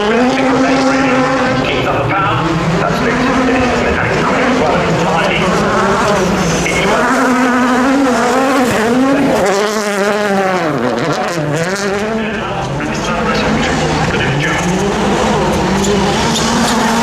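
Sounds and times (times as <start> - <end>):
rally car engine revving hard: 0.0 - 17.0.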